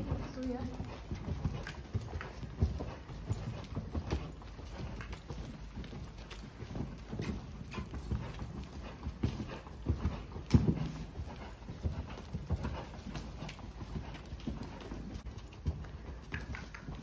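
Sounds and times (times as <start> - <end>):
horse hooves thudding: 0.0 - 17.0.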